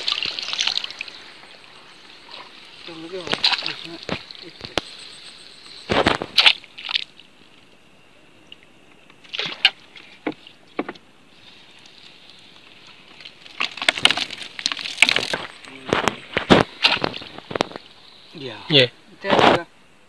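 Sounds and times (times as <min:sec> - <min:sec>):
water sloshing and dripping: 0:00.0 - 0:05.1, 0:05.9 - 0:07.8, 0:08.4 - 0:18.2
faint high hiss: 0:00.0 - 0:20.0.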